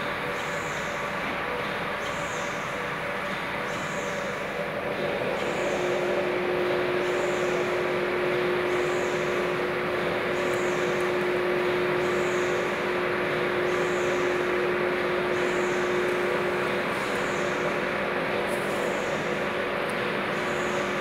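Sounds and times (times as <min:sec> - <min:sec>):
factory machinery droning: 0:00.0 - 0:21.0.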